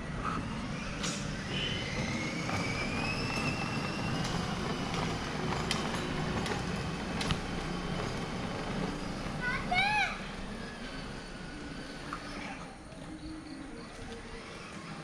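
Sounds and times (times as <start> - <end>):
electric motor whine rising: 0.0 - 9.4, 10.2 - 15.0.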